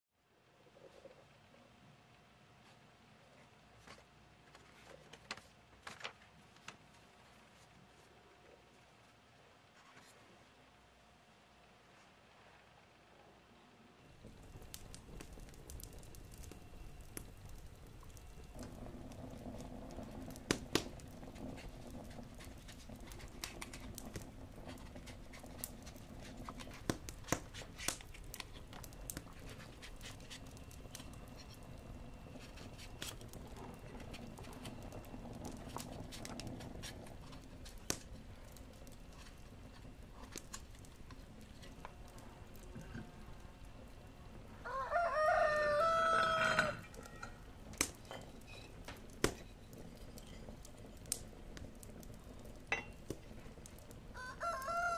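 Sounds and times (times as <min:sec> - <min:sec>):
faint steady hum: 0:00.2 - 0:54.9.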